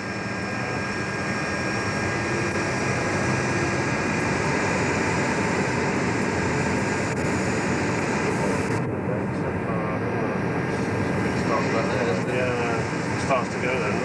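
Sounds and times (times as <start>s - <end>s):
jet engines running up: 0.0s - 14.0s.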